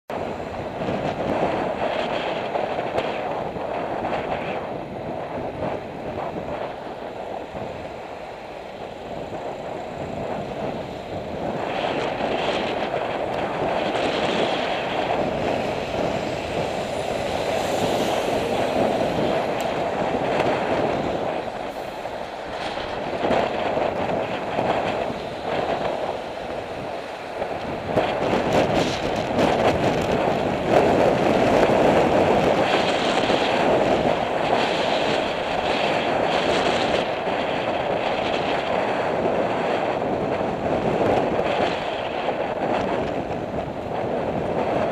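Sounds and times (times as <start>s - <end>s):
road rumble: 0.1s - 44.9s
wind rushing over microphone: 0.1s - 44.9s.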